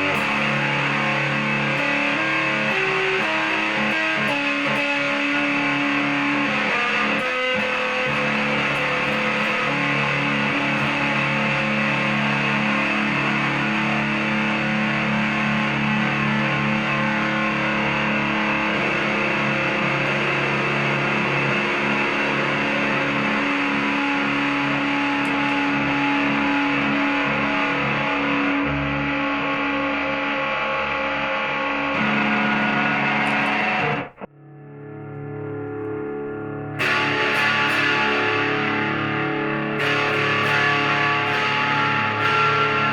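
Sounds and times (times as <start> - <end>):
distorted electric guitar chords: 0.0 - 42.9.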